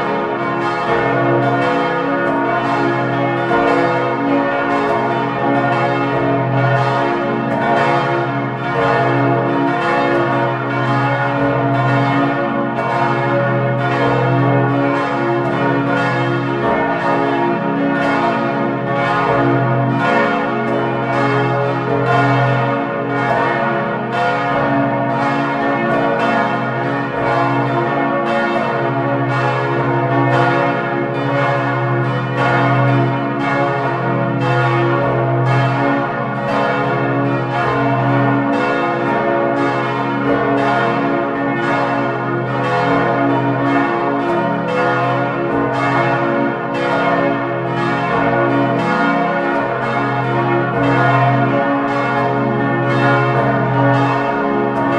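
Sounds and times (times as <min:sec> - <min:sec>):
church bells ringing: 0:00.0 - 0:54.9.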